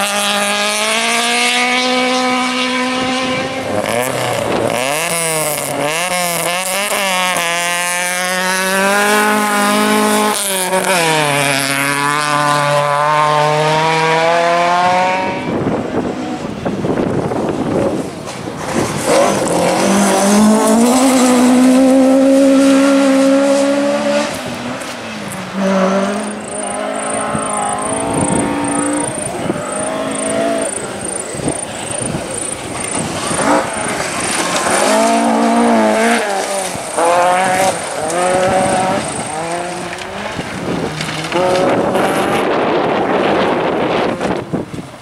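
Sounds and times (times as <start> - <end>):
rally car engine revving: 0.0 - 44.8.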